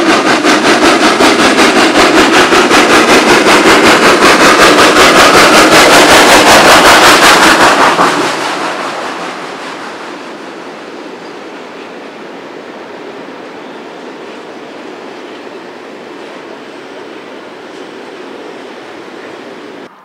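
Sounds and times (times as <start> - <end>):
steam locomotive exhaust beats: 0.0 - 19.9.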